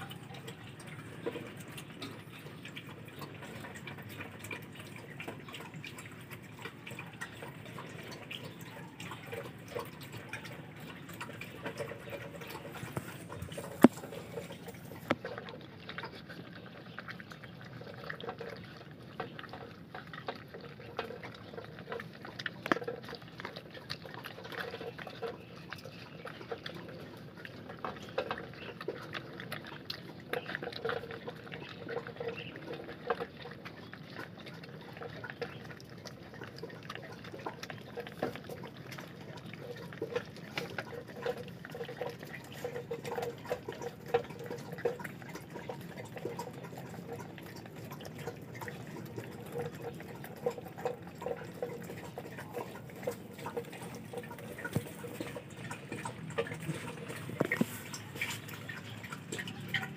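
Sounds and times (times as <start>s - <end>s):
puppies chewing and lapping: 0.0s - 59.9s.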